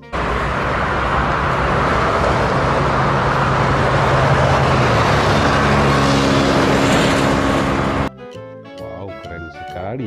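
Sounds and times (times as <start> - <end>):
low engine hum: 0.0 - 8.1
vehicles passing at speed: 0.0 - 8.1.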